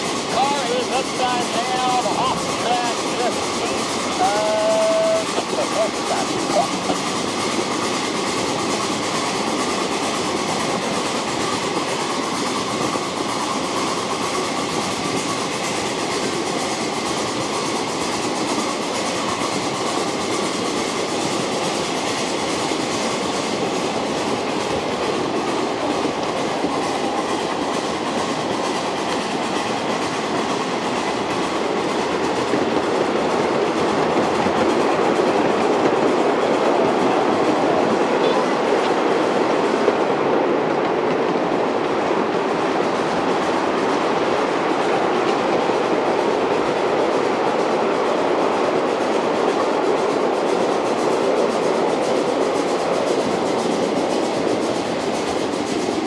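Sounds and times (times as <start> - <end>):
steam locomotive working: 0.0 - 56.0
steel wheels clattering over rails: 0.0 - 56.0.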